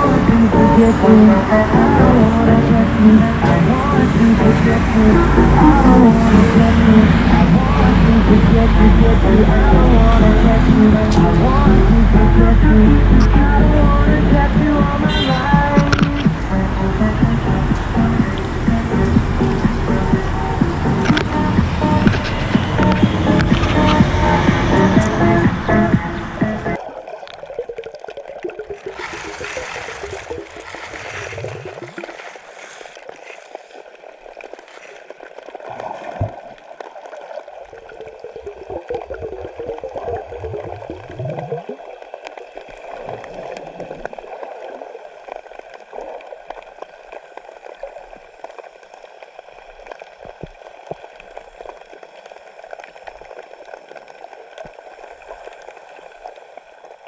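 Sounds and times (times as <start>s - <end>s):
water gurgling and trickling: 0.0s - 57.0s.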